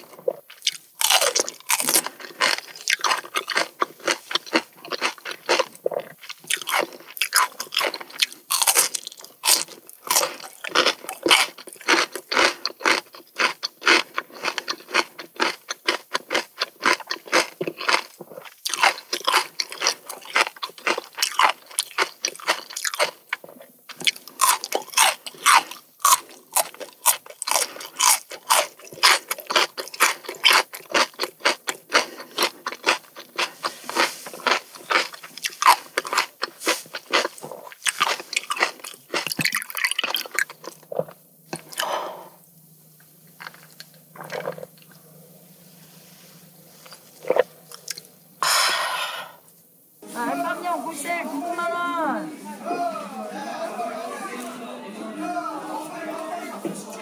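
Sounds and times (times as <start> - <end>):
person chewing crisp melon: 0.0 - 49.5.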